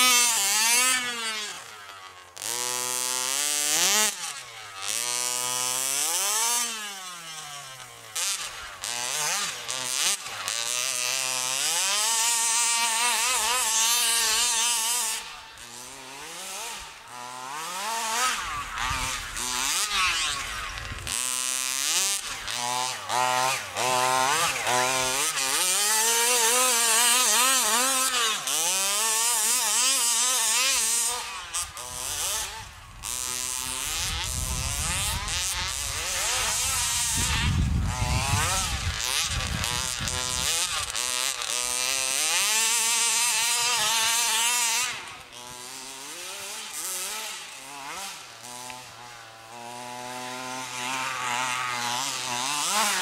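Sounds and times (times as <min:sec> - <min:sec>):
small two-stroke engine revving: 0:00.0 - 0:53.0.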